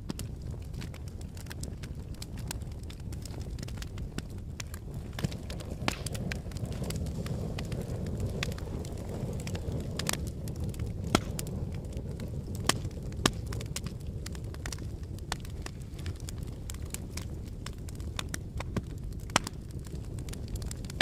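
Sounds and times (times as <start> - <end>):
lava snapping and cracking: 0.0 - 21.0.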